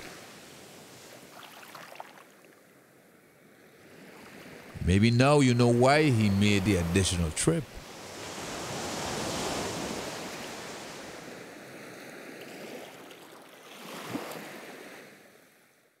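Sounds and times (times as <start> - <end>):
waves washing onto beach: 0.0 - 15.8.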